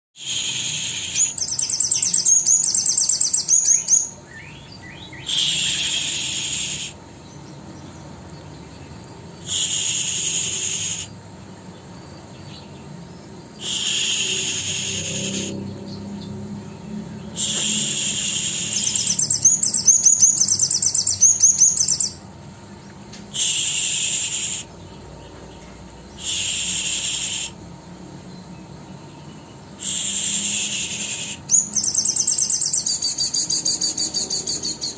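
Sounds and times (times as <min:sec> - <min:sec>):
high cricket-like buzzes: 0:00.2 - 0:34.9
songbird singing: 0:00.2 - 0:34.9.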